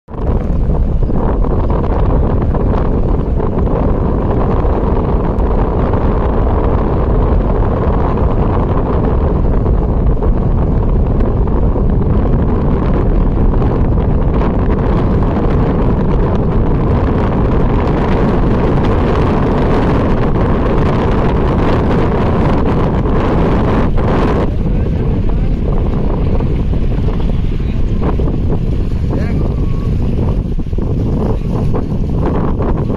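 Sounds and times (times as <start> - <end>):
wind blowing on microphone: 0.1 - 32.9.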